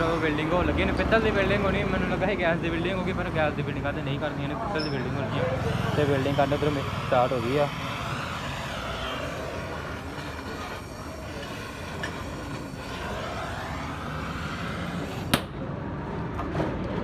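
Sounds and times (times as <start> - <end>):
blowtorch flame hissing: 0.0 - 15.5.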